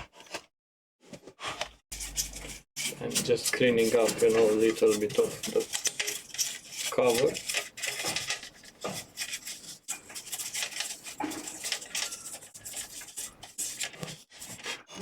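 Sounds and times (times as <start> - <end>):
rubbing and scraping on plastic: 0.0 - 15.0.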